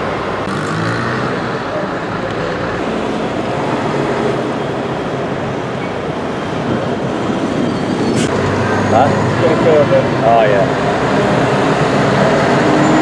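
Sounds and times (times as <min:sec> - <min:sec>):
diesel trucks passing: 0:00.0 - 0:13.0
tyres on road: 0:00.0 - 0:13.0.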